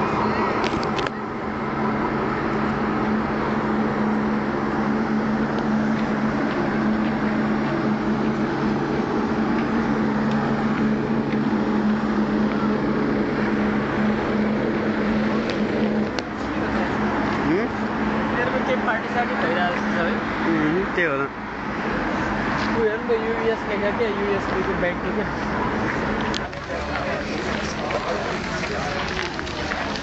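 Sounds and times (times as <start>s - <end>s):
street noise: 0.0s - 30.0s.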